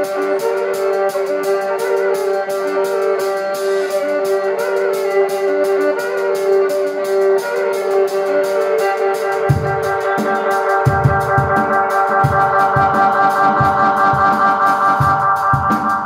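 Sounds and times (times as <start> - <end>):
drum kit beat with cymbal ticks: 0.0 - 16.0
violin melody over drone: 0.0 - 16.0.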